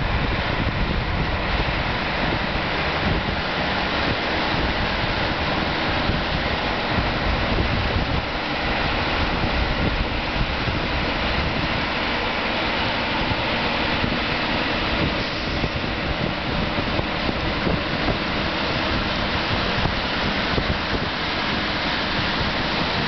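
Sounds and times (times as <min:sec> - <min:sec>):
train mechanical rumble: 0:00.0 - 0:23.0.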